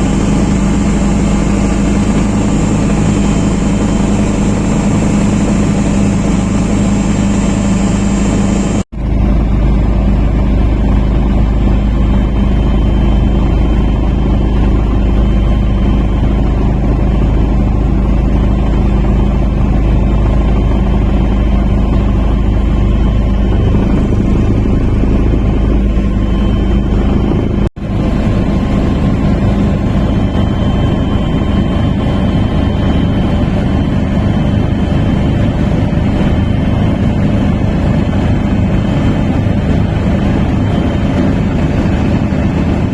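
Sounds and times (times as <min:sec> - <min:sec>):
engine deep rumble: 0:00.0 - 0:42.9.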